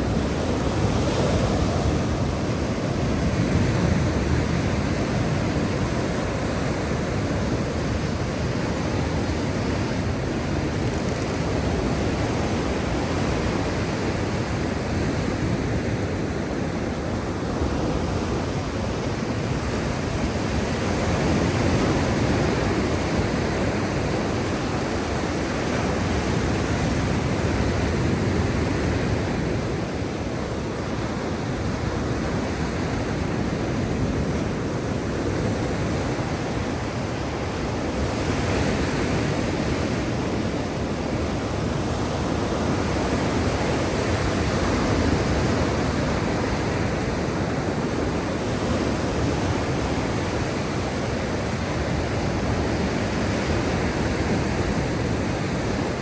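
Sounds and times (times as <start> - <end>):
sea surf waves rushing: 0.0 - 56.0.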